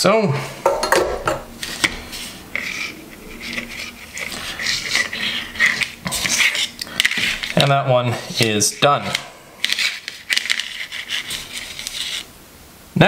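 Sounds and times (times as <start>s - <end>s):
scraping on cardboard: 1.6s - 12.3s.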